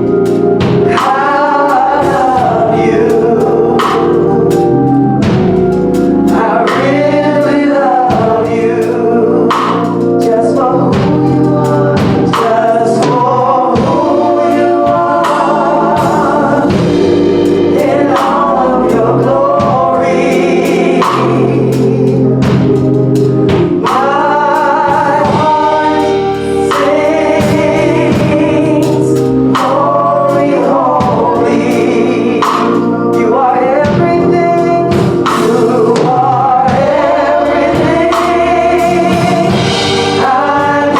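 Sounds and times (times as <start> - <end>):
band with drums: 0.0 - 40.9
choir singing: 0.0 - 40.9.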